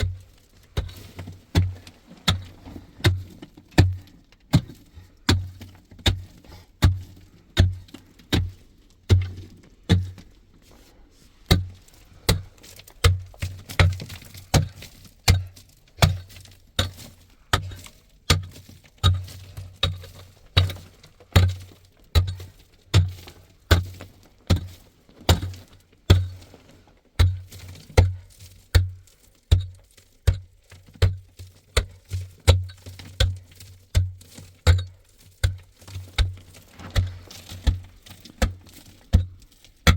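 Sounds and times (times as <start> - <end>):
tool striking hard ground: 0.0 - 10.3, 11.5 - 26.4, 27.2 - 39.9.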